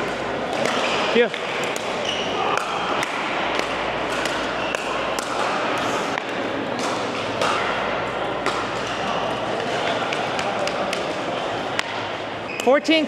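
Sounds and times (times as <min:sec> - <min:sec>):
hubbub of voices: 0:00.0 - 0:13.0.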